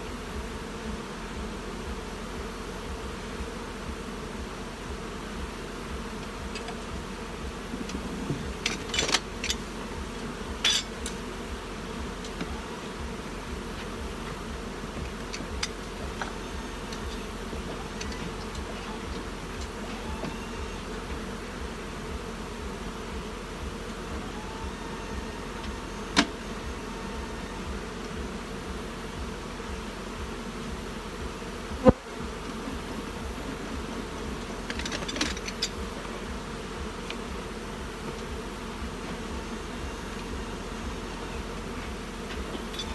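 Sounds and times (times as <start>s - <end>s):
honey bees buzzing: 0.0s - 42.9s
hive boxes knocking: 0.1s - 42.9s.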